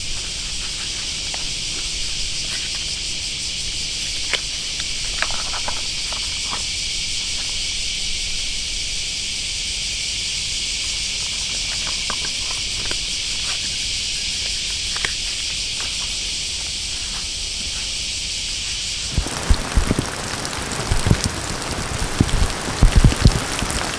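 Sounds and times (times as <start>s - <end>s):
high-pitched insect chorus: 0.0s - 23.9s.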